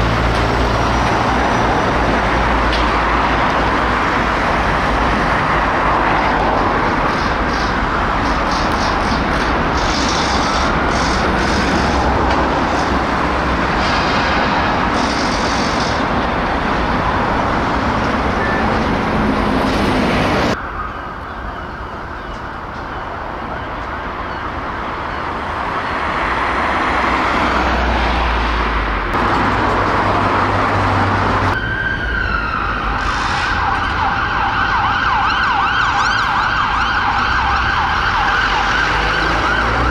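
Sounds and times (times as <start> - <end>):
emergency sirens wailing: 0.0 - 39.9
road traffic: 0.0 - 39.9.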